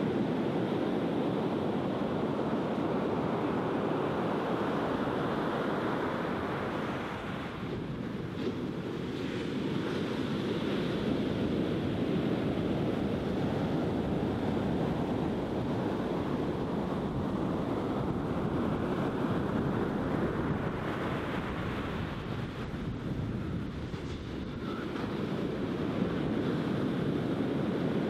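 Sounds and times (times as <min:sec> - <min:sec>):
sea surf breaking on beach: 0:00.0 - 0:28.0.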